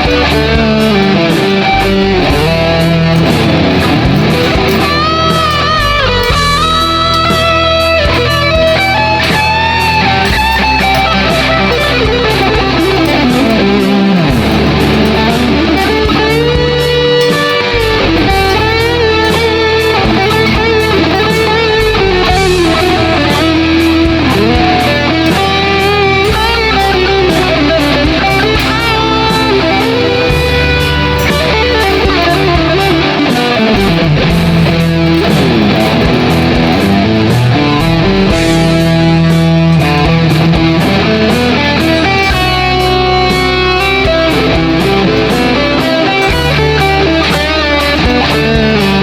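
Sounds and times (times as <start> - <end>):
bass and drums backing track: 0.0 - 49.0
electric guitar lead melody: 0.0 - 49.0.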